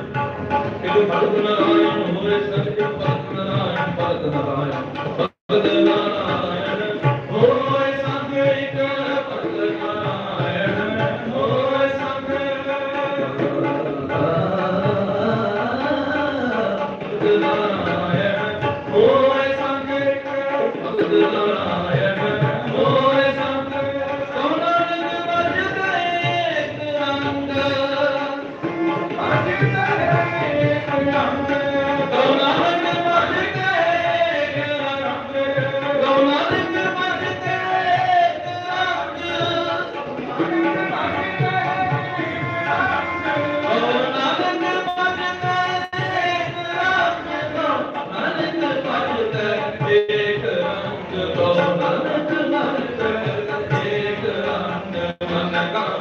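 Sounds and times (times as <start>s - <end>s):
harmonium: 0.0s - 56.0s
men singing devotional chant: 0.0s - 56.0s
tabla strokes: 0.0s - 56.0s.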